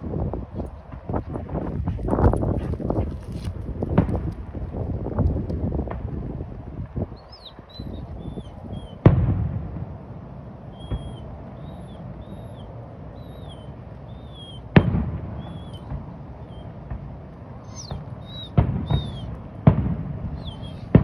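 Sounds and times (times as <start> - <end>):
distant firework booms: 0.1 - 10.0, 10.8 - 12.1, 14.6 - 21.0.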